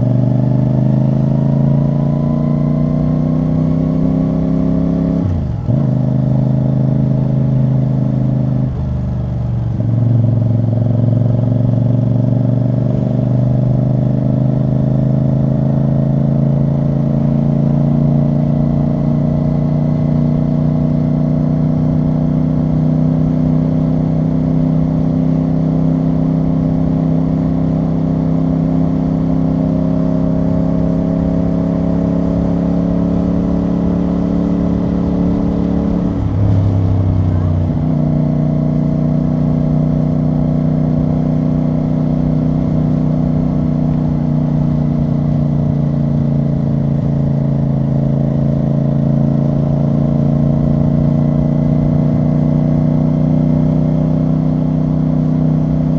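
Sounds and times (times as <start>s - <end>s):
motorcycle engine under load: 0.0s - 55.9s.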